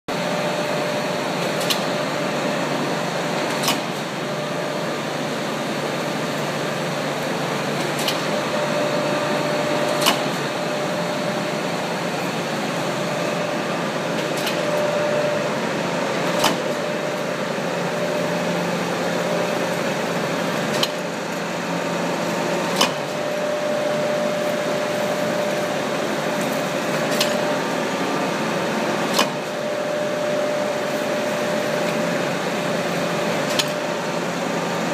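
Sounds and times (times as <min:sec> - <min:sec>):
metal planer hum and whine: 0:00.1 - 0:34.9.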